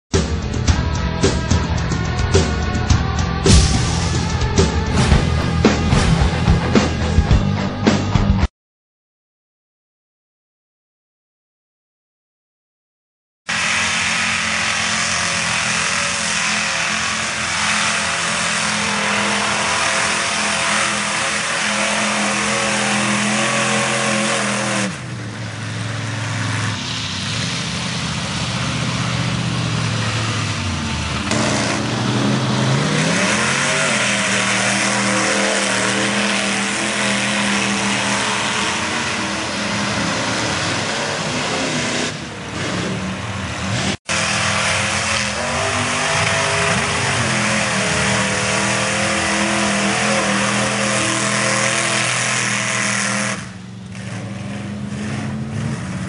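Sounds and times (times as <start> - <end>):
truck engine revving: 0.1 - 8.5, 13.5 - 56.0.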